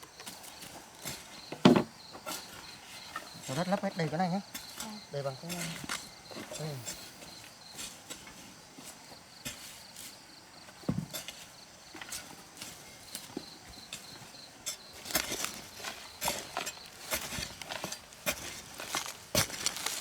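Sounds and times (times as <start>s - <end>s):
cricket chirping: 0.0s - 20.0s
soil being shovelled and packed: 0.0s - 20.0s.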